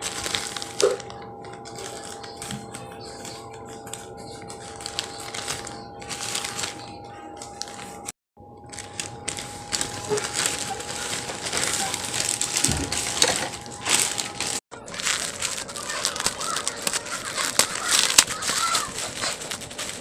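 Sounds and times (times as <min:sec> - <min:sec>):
crinkling and crunching: 0:00.0 - 0:20.0.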